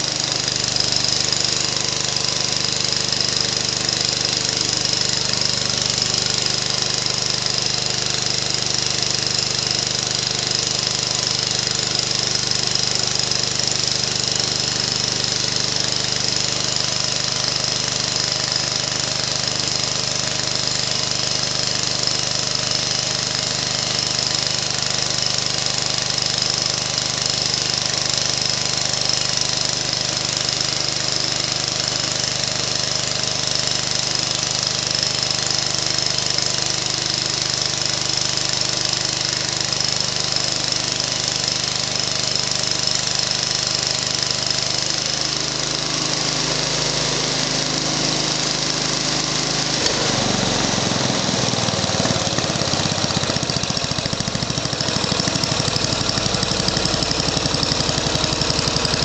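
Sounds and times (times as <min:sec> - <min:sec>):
generator engine running: 0:00.0 - 0:59.0.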